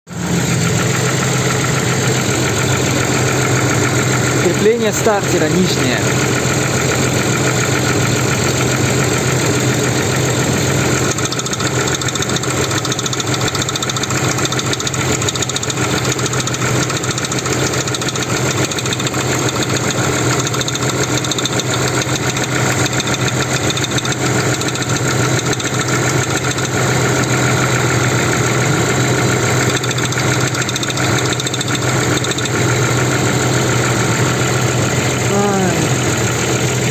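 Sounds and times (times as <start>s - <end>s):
engine idling: 0.1s - 36.9s.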